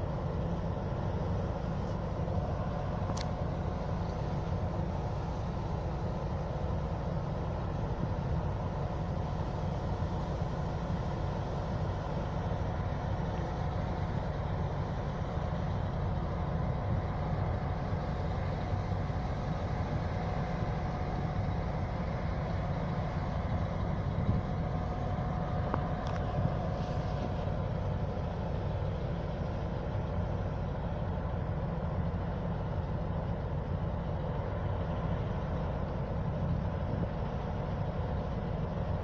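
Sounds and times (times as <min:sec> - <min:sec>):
diesel locomotive engine rumbling: 0:00.0 - 0:39.0
thin steady whine: 0:00.0 - 0:39.0.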